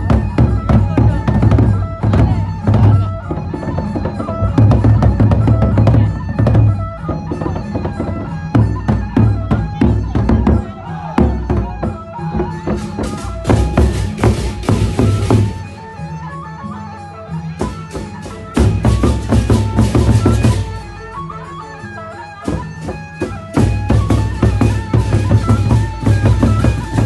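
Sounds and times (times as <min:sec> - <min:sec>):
barrel drums beaten fast: 0:00.0 - 0:15.7, 0:17.6 - 0:21.0, 0:22.4 - 0:27.0
metallic percussion strikes: 0:00.0 - 0:16.2, 0:17.5 - 0:27.0.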